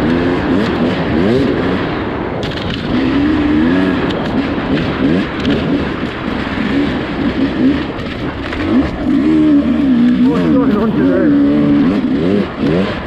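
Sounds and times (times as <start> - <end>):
bike rattling: 0.0 - 13.0
dirt bike engine revving: 0.0 - 13.0.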